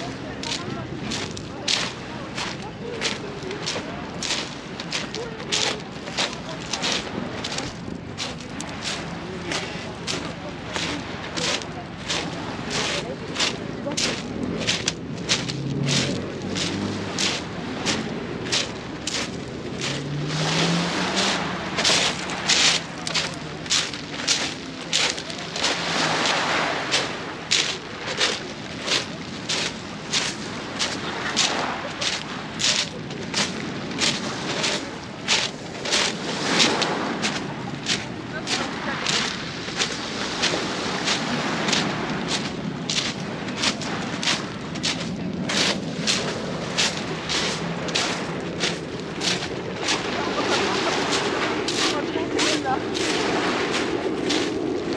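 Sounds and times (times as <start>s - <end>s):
footsteps on pebbles: 0.0s - 54.9s
small waves: 0.0s - 54.9s.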